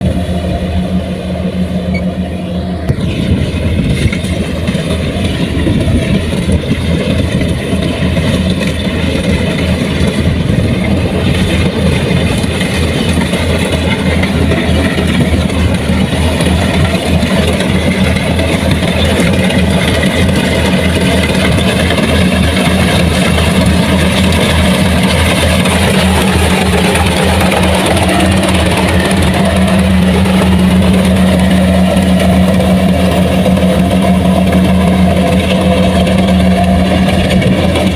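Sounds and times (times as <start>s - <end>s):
farm machine engine running: 0.0s - 37.9s.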